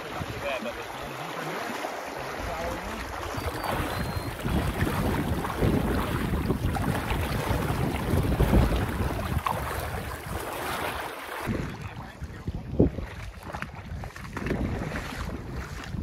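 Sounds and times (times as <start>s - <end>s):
wind rumbling on microphone: 0.0s - 0.5s, 2.3s - 16.0s
wading through river water: 0.0s - 16.0s.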